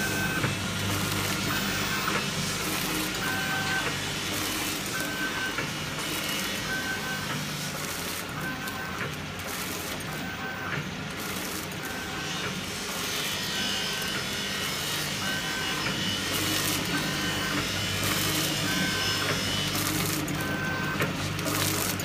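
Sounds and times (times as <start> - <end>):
machine motor hum: 0.0 - 22.0.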